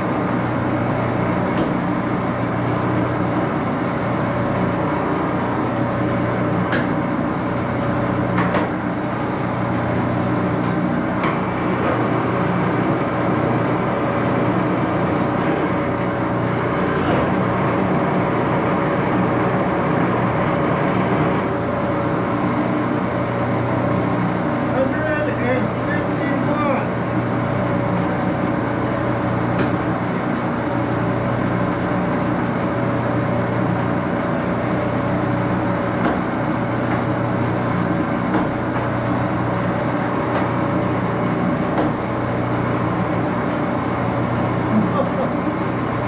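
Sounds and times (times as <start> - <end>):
lathe gears humming: 0.0 - 46.0.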